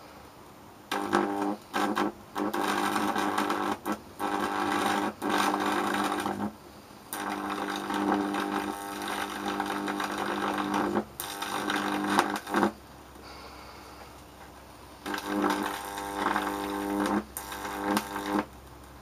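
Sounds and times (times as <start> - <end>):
electric arc buzzing: 0.9 - 12.9, 15.0 - 19.0.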